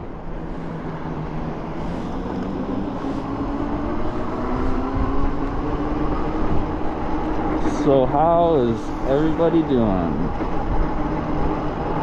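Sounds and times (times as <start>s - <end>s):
wind rumbling on microphone: 0.0s - 9.3s, 10.1s - 12.0s.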